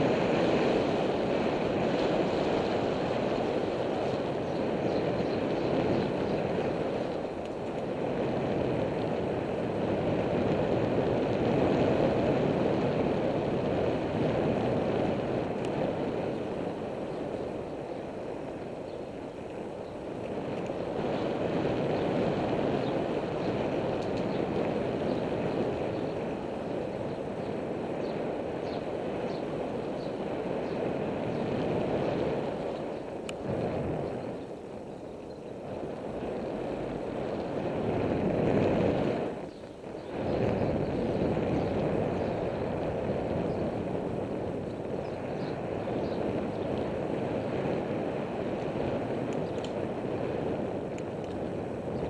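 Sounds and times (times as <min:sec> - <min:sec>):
bicycle road noise: 0:00.0 - 0:52.0
wind rushing over microphone: 0:00.0 - 0:52.0.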